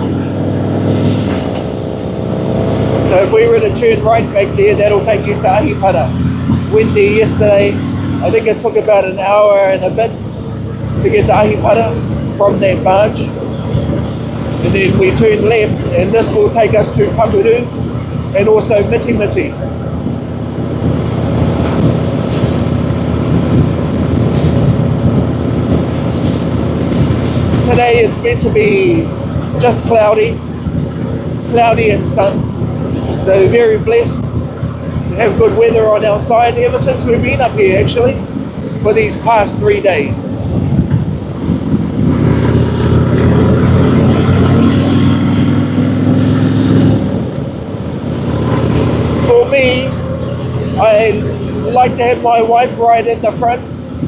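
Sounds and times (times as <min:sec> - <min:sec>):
motorcycle engine rumble: 0:00.0 - 0:54.0
wind rushing over microphone: 0:00.0 - 0:54.0.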